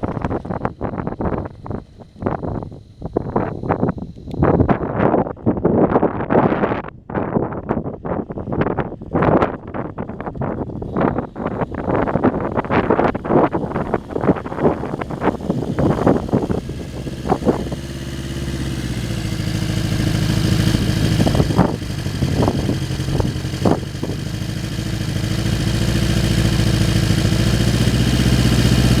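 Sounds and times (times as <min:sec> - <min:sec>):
motorcycle engine running: 0:00.0 - 0:06.8, 0:07.5 - 0:29.0
wind buffeting microphone: 0:00.0 - 0:29.0.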